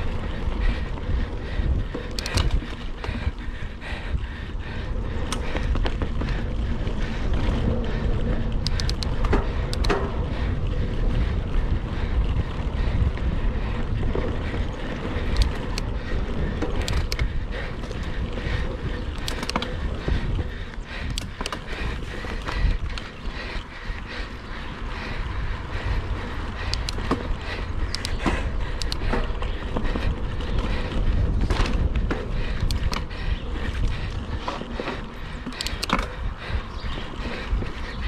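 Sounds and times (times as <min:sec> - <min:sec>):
bike clicks and rattles: 0:00.0 - 0:38.0
bike tyres rumbling on dirt: 0:00.0 - 0:38.0
wind buffeting microphone: 0:00.0 - 0:38.0.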